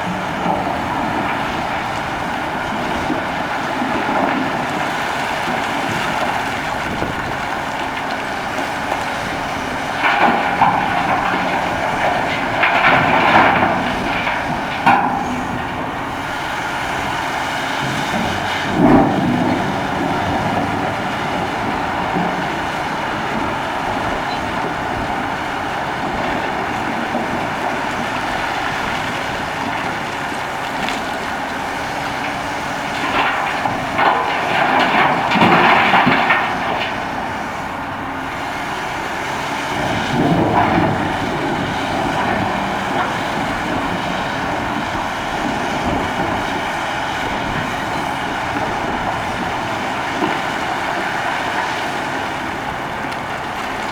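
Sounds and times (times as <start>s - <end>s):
excavator running: 0.0s - 53.9s.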